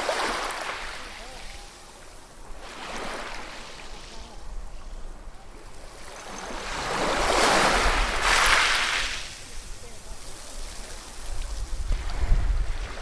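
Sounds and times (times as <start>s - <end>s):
sea waves on a shore: 0.0s - 13.0s.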